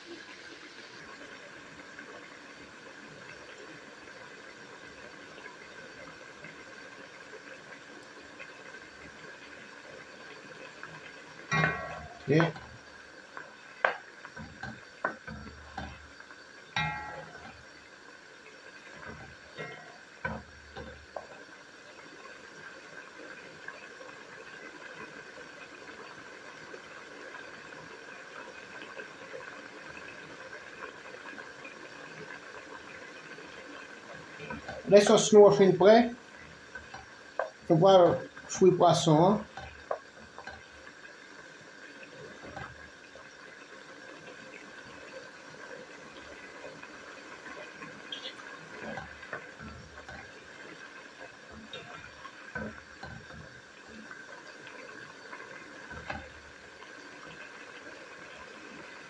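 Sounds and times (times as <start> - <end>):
sauce simmering and bubbling: 0.0 - 59.0.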